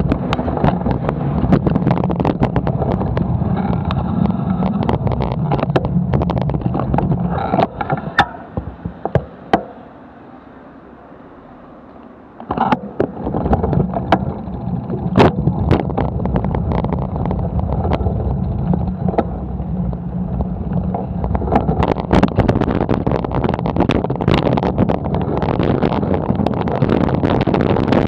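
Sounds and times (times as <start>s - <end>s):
wind on microphone: 0.0s - 9.4s, 12.4s - 28.0s
bike rattling and knocking: 0.0s - 9.8s, 12.4s - 28.0s
low road rumble: 0.0s - 28.0s.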